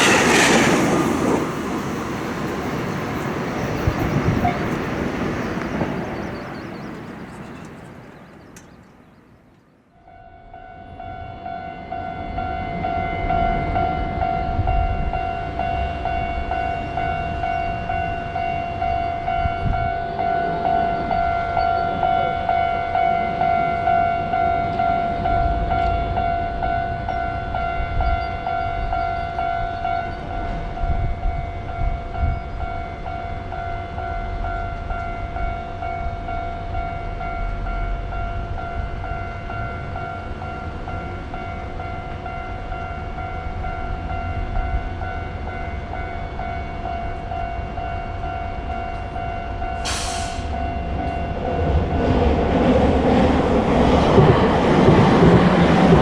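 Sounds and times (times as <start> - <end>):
railroad crossing bell clanging: 0.0 - 9.0, 10.0 - 52.4
train rumbling past: 0.0 - 9.3, 10.6 - 56.0.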